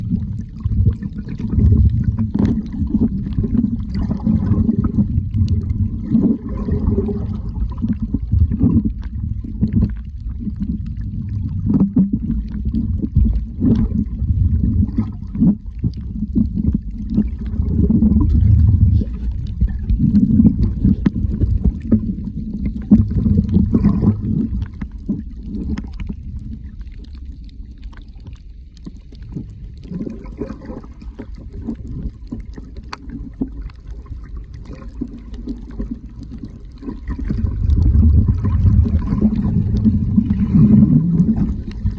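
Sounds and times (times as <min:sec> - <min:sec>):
muffled water rumbling and sloshing: 0:00.0 - 0:41.9.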